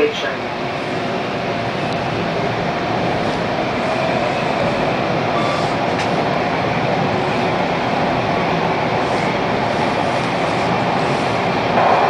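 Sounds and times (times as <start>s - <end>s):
subway wheels on rail: 0.0s - 12.0s.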